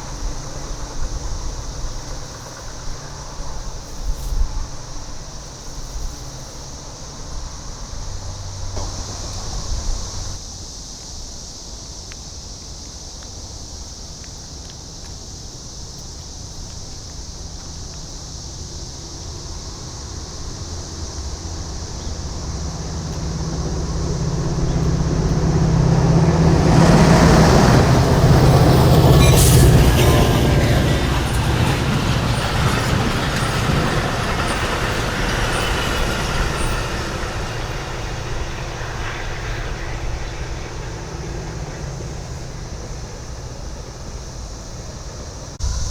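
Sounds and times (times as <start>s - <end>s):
diesel train passing: 0.0s - 10.8s, 15.4s - 45.9s
cicadas buzzing: 0.0s - 45.9s.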